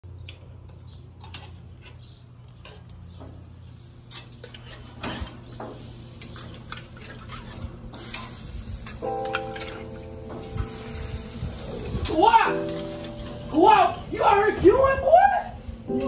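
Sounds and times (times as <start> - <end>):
light clicks and clinks on grill: 0.2 - 13.6.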